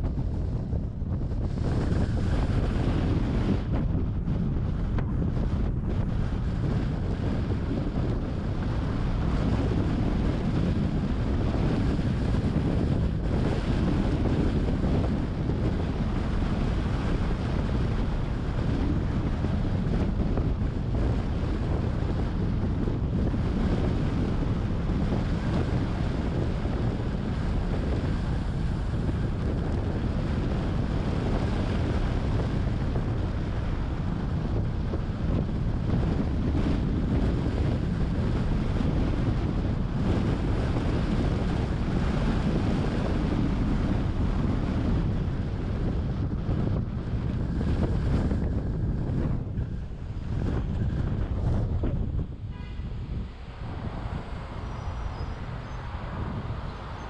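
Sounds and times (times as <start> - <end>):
road rumble: 0.0 - 57.0
wind buffeting microphone: 0.0 - 57.0.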